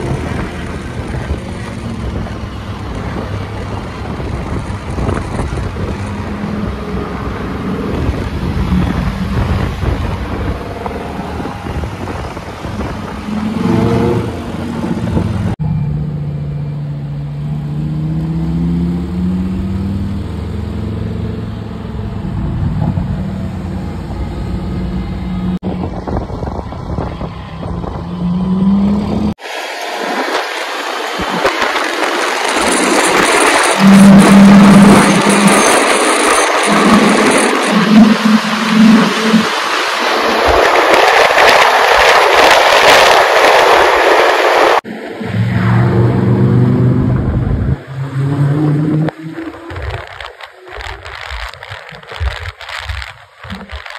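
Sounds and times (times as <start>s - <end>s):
road and traffic noise: 0.0s - 53.9s.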